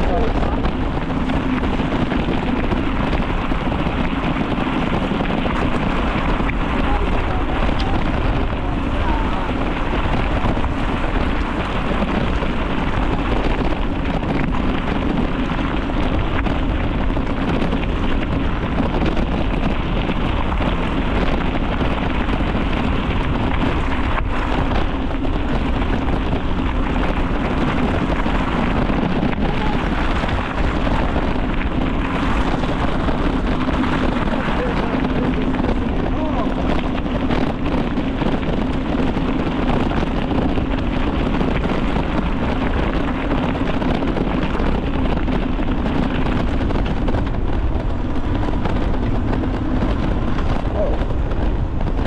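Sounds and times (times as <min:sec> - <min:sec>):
bicycle tyres rolling: 0:00.0 - 0:52.0
wind rushing over microphone: 0:00.0 - 0:52.0.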